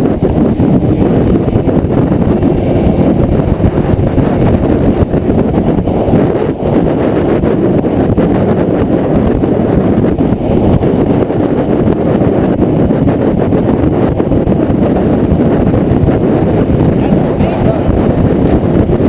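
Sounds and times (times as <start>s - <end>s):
boat motor rumble: 0.0s - 19.0s
wind buffeting microphone: 0.0s - 19.0s.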